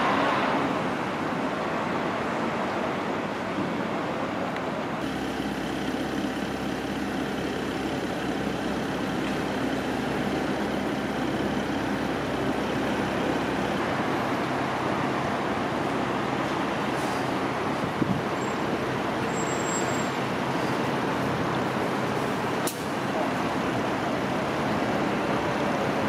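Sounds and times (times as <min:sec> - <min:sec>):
city traffic: 0:00.0 - 0:26.0
heavy vehicle engine running: 0:00.0 - 0:26.0.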